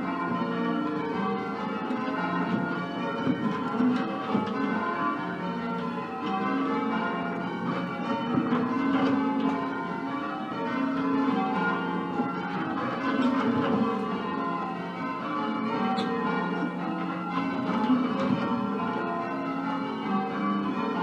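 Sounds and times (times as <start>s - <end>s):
church bells ringing in changes: 0.0s - 21.0s.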